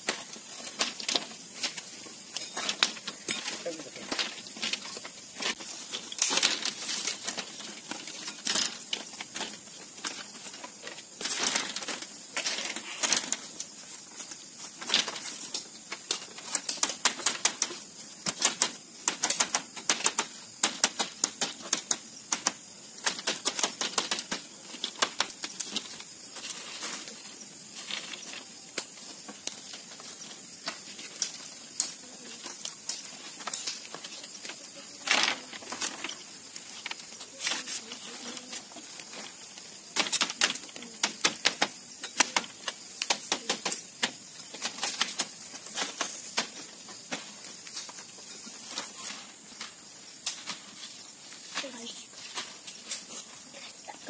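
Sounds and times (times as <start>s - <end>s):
bamboo strips clacking: 0.0s - 54.0s.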